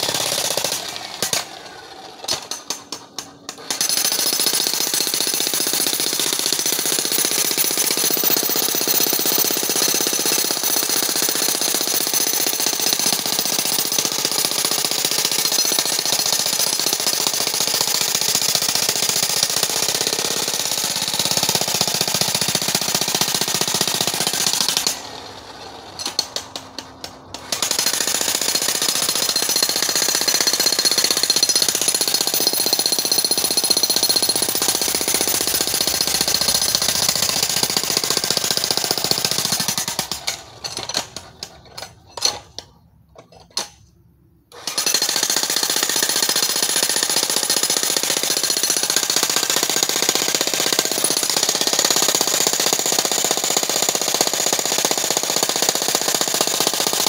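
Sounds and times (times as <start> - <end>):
jackhammer breaking rock: 0.0 - 42.6, 44.6 - 57.0.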